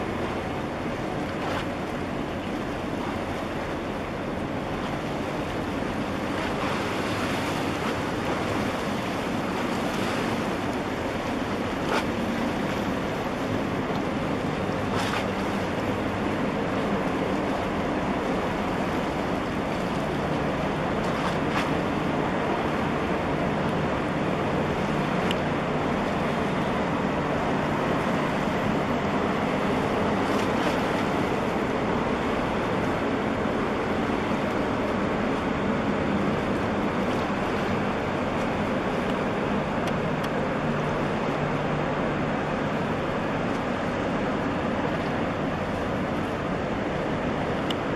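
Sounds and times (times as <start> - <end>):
churned water rushing: 0.0 - 47.9
ship engine drone: 0.0 - 47.9
wind: 0.0 - 47.9.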